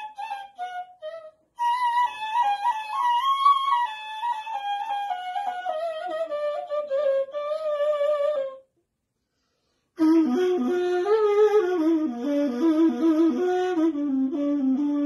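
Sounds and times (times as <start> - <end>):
cane flute playing: 0.0 - 8.7, 10.0 - 15.0.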